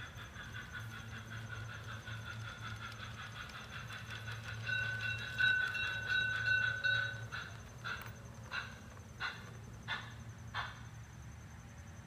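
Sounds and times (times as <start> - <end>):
model train running hum: 0.0 - 12.0.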